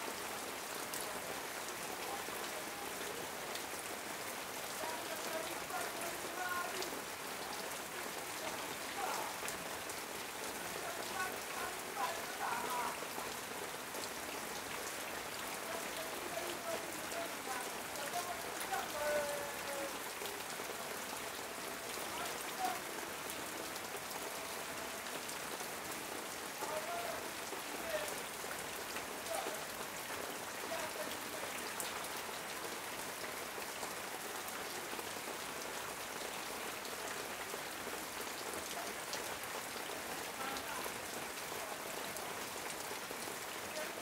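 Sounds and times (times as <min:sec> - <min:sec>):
rain on a metal roof: 0:00.0 - 0:44.0.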